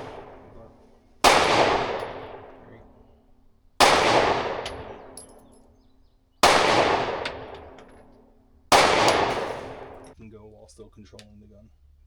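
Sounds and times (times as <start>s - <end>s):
pistol shots: 0.0s - 10.2s.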